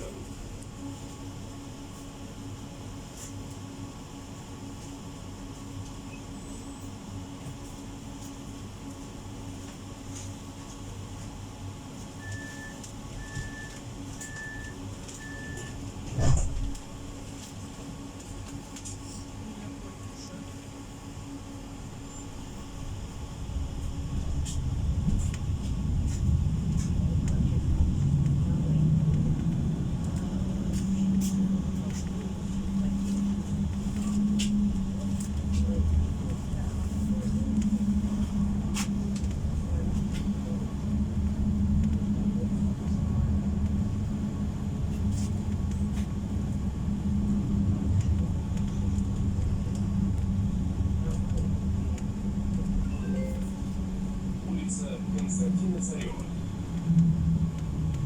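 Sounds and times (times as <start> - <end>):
tram running rumble: 0.0 - 58.0.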